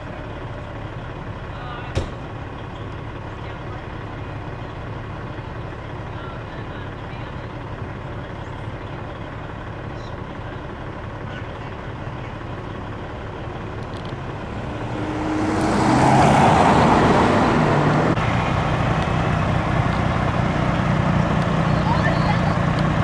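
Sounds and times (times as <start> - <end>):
fire truck driving past: 0.0 - 23.0
road traffic: 0.0 - 23.0.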